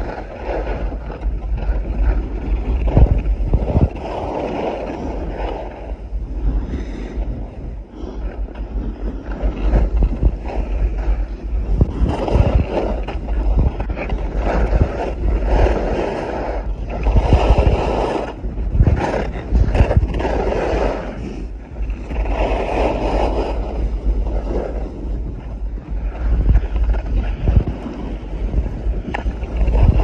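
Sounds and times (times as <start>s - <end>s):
skis scraping on snow: 0.0s - 30.0s
wind buffeting microphone: 0.0s - 30.0s.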